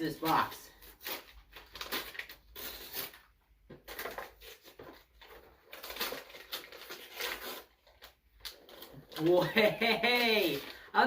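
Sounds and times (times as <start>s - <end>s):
packaging rustling and crinkling: 0.2s - 10.9s.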